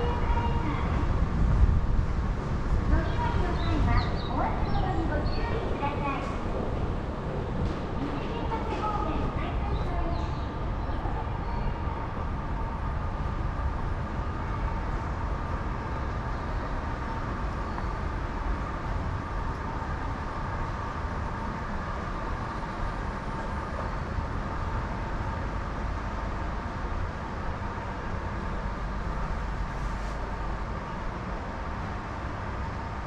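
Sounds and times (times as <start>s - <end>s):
subway platform rumble and hum: 0.0s - 33.0s.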